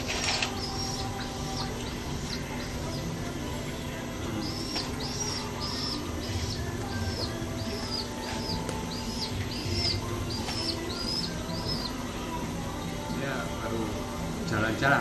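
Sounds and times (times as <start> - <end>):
pigeon chick peeping: 0.0 - 12.6.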